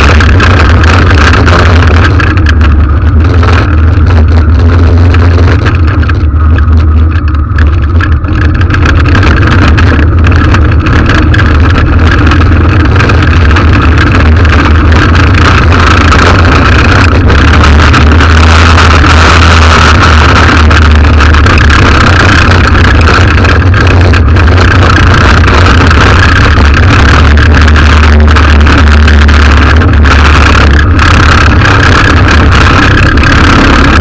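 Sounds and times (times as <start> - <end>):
armoured vehicle engine rumbling: 0.0 - 34.0.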